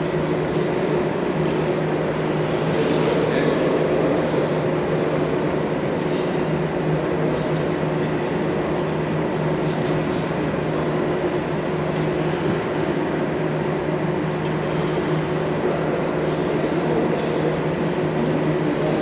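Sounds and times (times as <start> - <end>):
room hum and hiss: 0.0 - 19.0.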